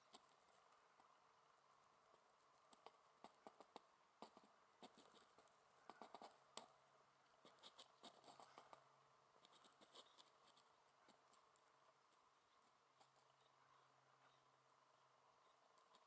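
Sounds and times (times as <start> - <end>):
faint steady hum: 0.0 - 16.0
faint ticks and scratches: 0.0 - 16.0.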